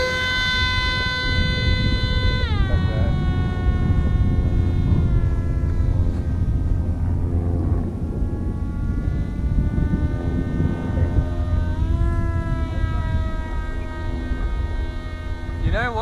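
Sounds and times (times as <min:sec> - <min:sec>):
electric motor and propeller whining: 0:00.0 - 0:16.0
low rumble: 0:00.0 - 0:16.0.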